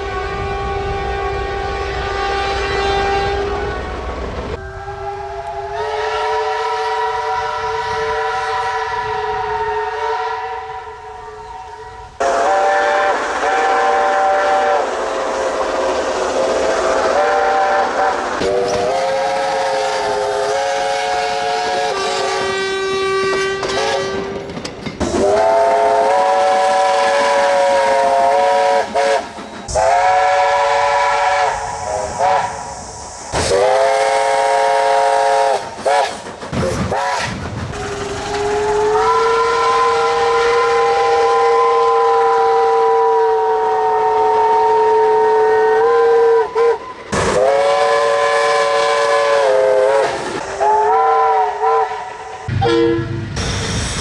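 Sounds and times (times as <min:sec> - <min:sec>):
steam locomotive whistle blasts: 0:00.0 - 0:24.4, 0:25.0 - 0:54.0.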